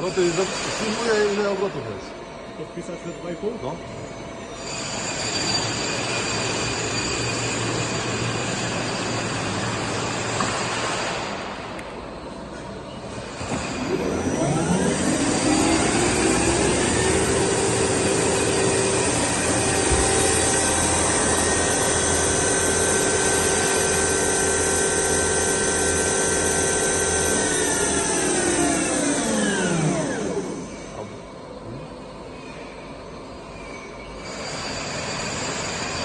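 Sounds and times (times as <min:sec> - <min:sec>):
machine spindle whine: 0:00.0 - 0:36.0.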